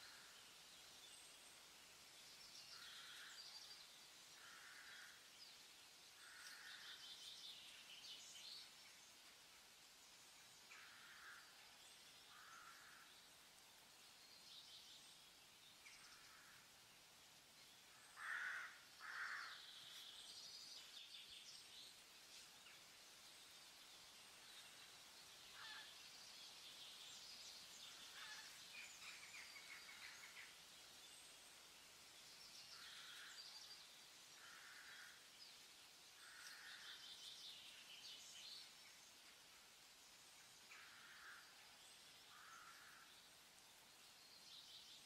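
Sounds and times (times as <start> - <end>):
faint bird chirping: 0.0 - 45.0.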